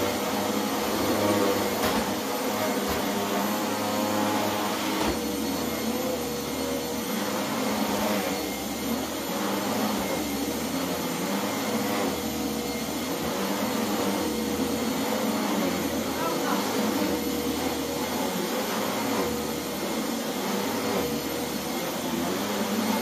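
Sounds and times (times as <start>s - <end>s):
vacuum cleaner motor drone: 0.0s - 23.0s.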